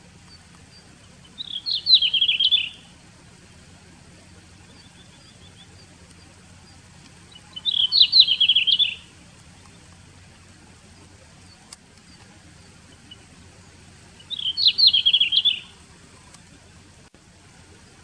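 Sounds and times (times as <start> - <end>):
bird song warbled phrases: 0.0 - 18.0.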